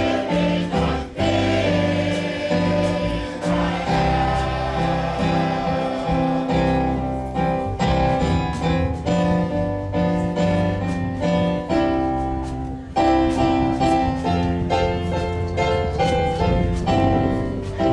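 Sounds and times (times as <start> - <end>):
piano playing slow chords: 0.0 - 17.9.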